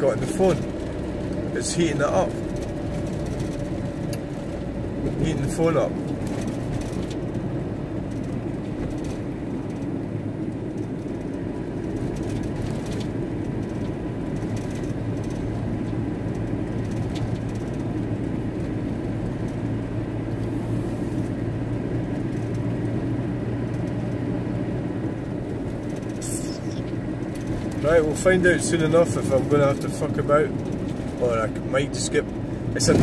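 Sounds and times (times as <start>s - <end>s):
van engine and road noise: 0.0s - 33.0s.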